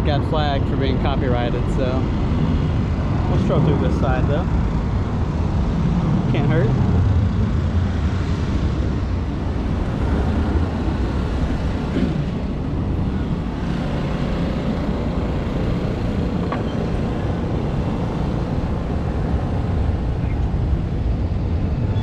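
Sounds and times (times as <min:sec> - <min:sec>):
outdoor background rumble: 0:00.0 - 0:22.0.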